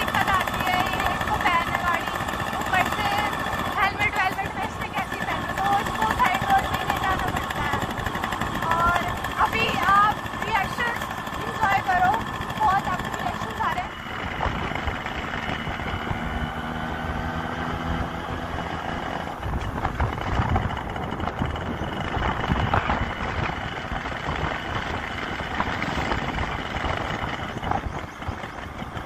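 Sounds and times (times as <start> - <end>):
motorcycle engine cruising: 0.0 - 29.0
rushing wind: 0.0 - 29.0.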